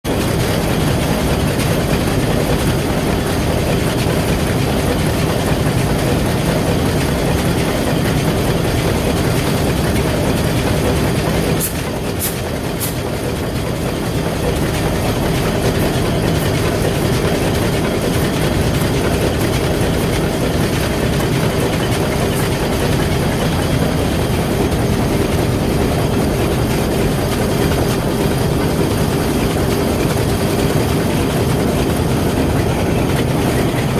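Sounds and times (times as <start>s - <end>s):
marine diesel engine running: 0.1s - 33.9s.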